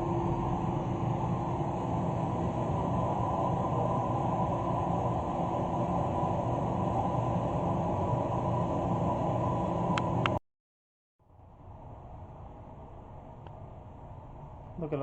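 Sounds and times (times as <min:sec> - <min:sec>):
low rumbling background noise: 0:00.0 - 0:10.4, 0:11.2 - 0:15.0.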